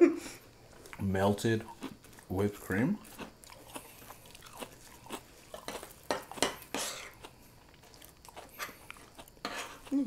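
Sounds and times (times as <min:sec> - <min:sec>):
chewing: 0:00.7 - 0:10.0.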